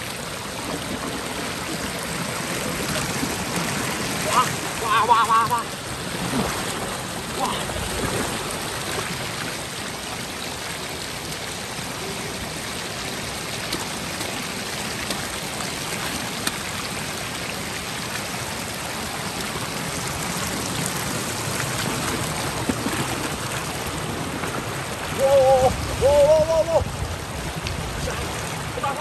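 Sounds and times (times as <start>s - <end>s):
running water rushing: 0.0s - 29.0s.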